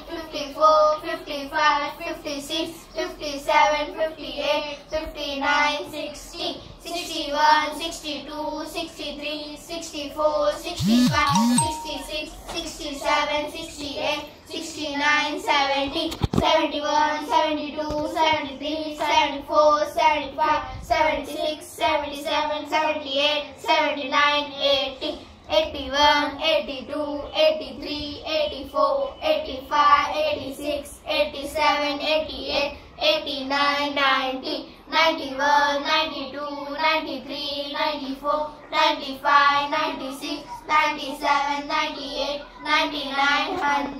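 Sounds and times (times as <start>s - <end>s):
children chanting in sing-song rhythm: 0.0s - 43.9s.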